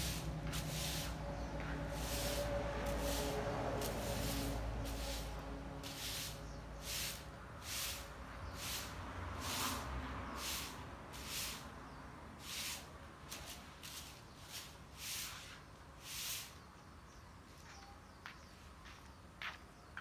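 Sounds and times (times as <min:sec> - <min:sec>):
broom sweeping tiles: 0:00.0 - 0:16.8.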